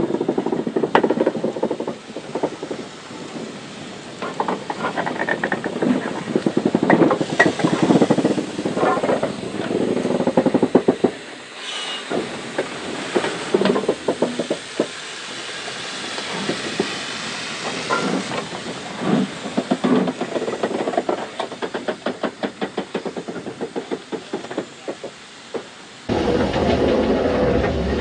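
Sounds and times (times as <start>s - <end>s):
steam hissing: 0.0s - 28.0s
steam locomotive exhaust beats: 0.0s - 28.0s.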